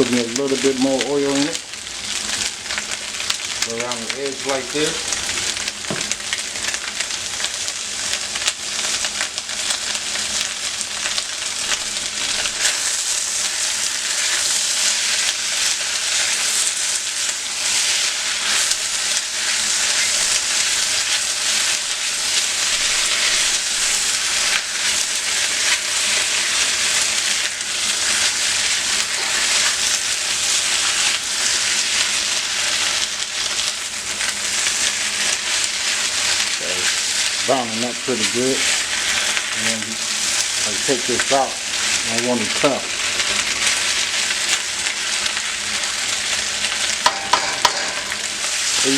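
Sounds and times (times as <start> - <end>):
food sizzling in hot oil: 0.0 - 48.9.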